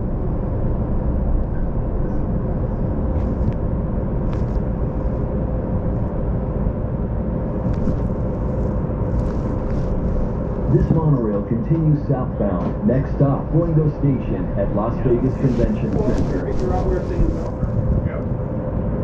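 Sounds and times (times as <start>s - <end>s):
faint whine: 0.0s - 19.0s
monorail car rumble: 0.0s - 19.0s.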